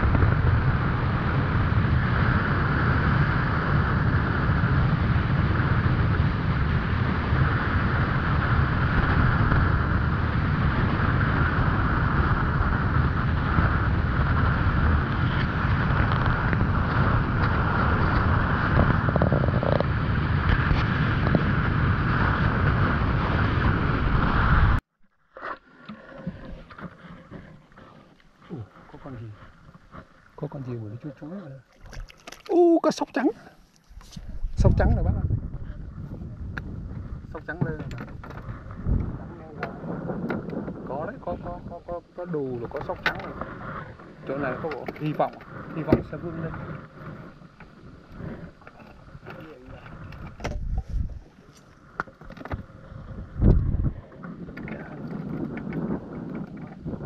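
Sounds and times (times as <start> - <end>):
wind on microphone: 0.0 - 24.8, 31.8 - 57.0
boat rumble and rushing: 0.0 - 57.0.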